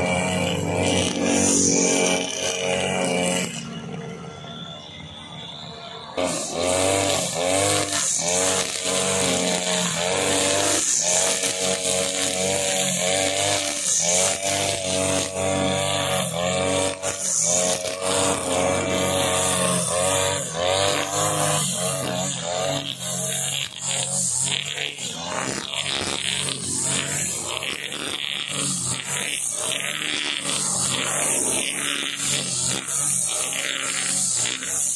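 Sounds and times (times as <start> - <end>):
trimmer line cutting grass: 0.0 - 4.1, 6.2 - 34.9
brush cutter engine: 0.0 - 4.4, 6.2 - 34.9.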